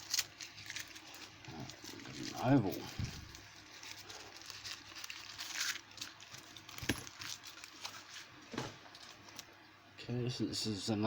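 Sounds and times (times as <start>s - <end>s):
packaging rustle: 0.0s - 9.5s.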